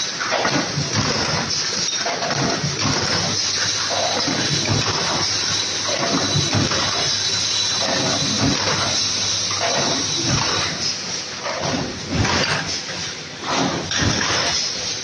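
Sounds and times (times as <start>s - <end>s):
forming machine clanks: 0.0s - 15.0s
machinery hiss and whine: 0.0s - 15.0s.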